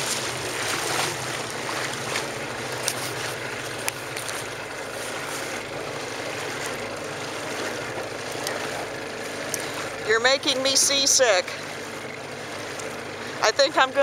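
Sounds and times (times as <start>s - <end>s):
wind and water rushing: 0.0s - 14.0s.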